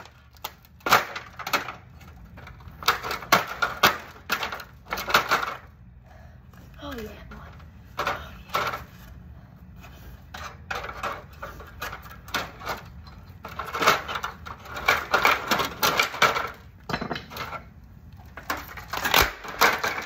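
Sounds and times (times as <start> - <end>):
clattering and knocking of hard parts: 0.0 - 5.9, 6.9 - 9.2, 9.8 - 20.0.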